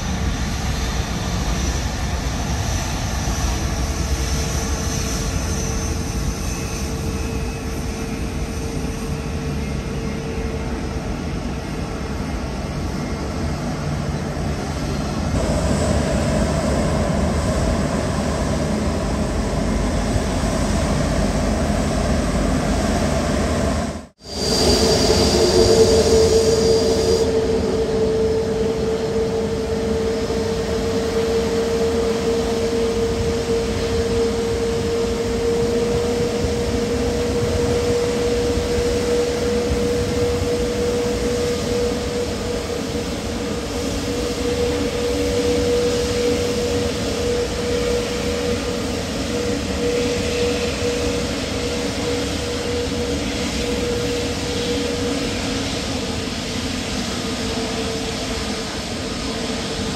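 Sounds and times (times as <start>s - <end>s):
jet engines whining and rumbling: 0.0s - 59.9s.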